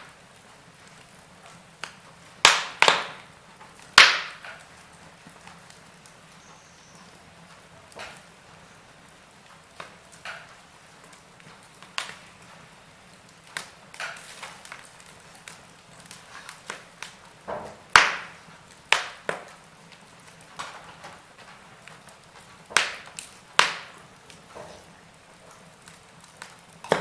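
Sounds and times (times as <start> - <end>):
faint steady hiss: 0.0 - 27.0
fire crackling and popping: 0.0 - 27.0.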